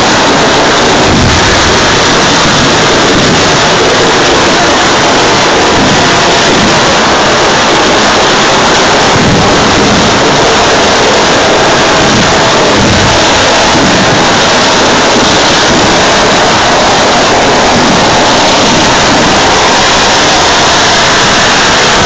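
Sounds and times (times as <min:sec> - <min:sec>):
fireworks hissing and crackling: 0:00.0 - 0:22.0.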